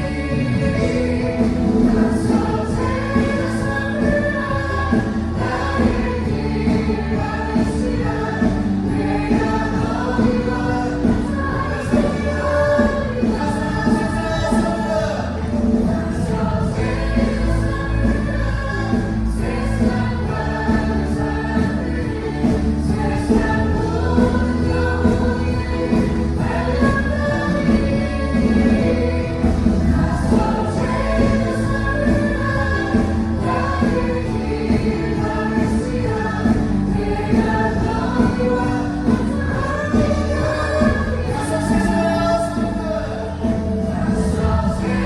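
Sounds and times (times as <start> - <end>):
many voices singing: 0.0 - 45.0.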